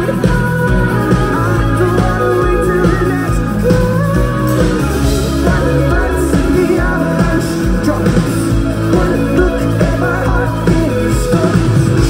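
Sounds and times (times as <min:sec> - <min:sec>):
bass guitar: 0:00.0 - 0:12.0
drum kit: 0:00.0 - 0:12.0
electric guitar: 0:00.0 - 0:12.0
person singing: 0:00.0 - 0:12.0.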